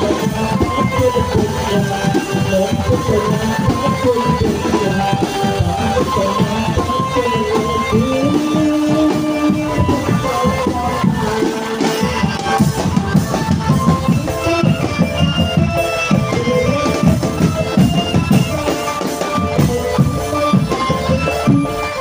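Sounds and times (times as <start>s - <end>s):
melody of held notes: 0.0s - 22.0s
rapid drumming: 0.0s - 22.0s.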